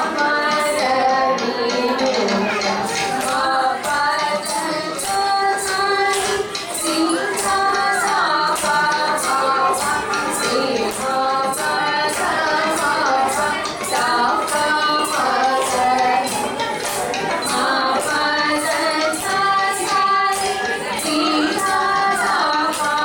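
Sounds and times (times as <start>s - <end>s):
percussion beat with jingles: 0.0s - 23.0s
woman singing: 0.0s - 23.0s.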